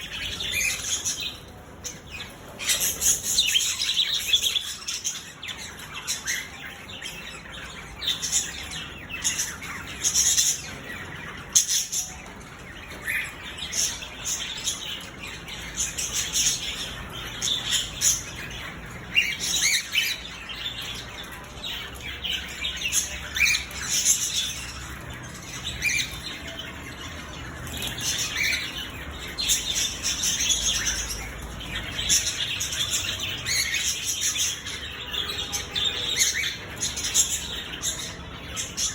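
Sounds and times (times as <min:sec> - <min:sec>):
birds chirping and calling: 0:00.0 - 0:38.9.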